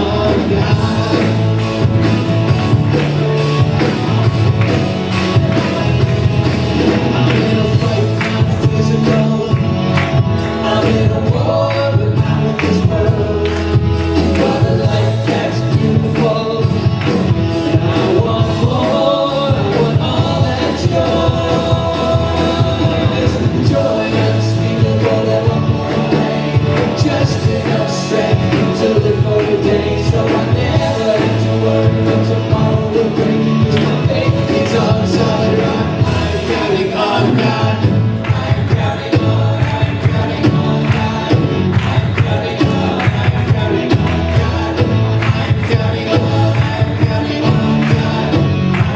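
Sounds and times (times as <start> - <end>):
live worship band playing: 0.0 - 48.9
voices singing along: 0.0 - 48.9.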